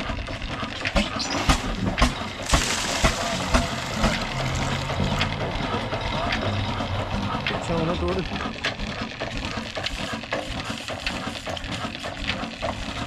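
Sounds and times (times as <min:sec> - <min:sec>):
diesel engine running slowly: 0:00.0 - 0:13.0.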